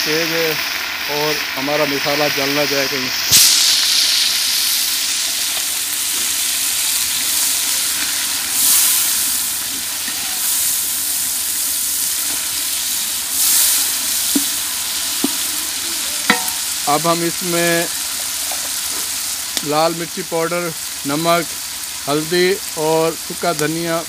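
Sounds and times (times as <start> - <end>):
masala sizzling in a pot: 0.0 - 24.0.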